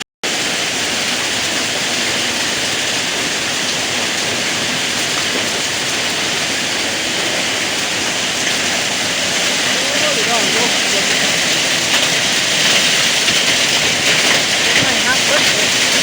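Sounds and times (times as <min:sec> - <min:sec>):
wind-driven heavy rain: 0:00.2 - 0:16.0.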